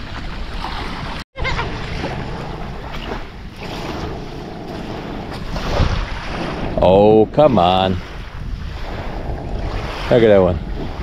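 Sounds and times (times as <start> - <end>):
wind buffeting microphone: 0.0 - 11.0
surf washing onto beach: 0.8 - 11.0.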